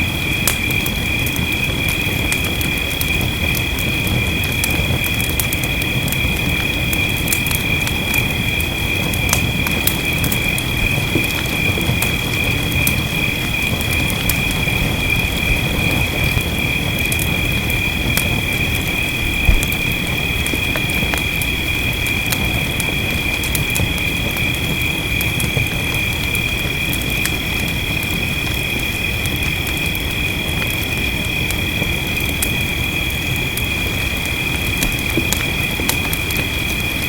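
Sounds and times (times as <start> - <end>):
rain hissing: 0.0 - 37.0
wood fire crackling and popping: 0.0 - 37.0.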